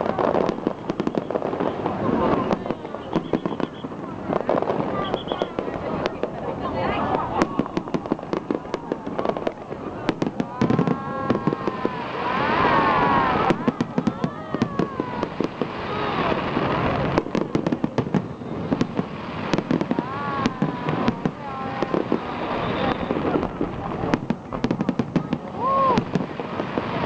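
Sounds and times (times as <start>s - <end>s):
spectators calling out: 0.0s - 19.0s, 19.6s - 23.7s
fireworks bangs and crackles: 0.0s - 27.0s.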